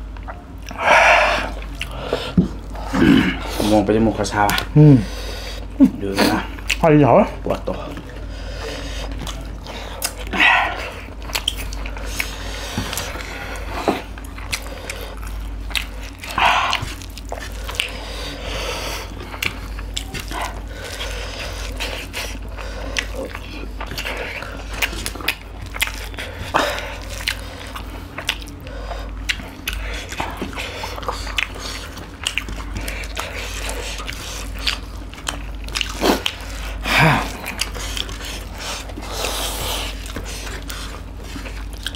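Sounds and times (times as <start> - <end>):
chewing and lip-smacking: 0.0 - 41.9
steady low hum: 0.0 - 41.9.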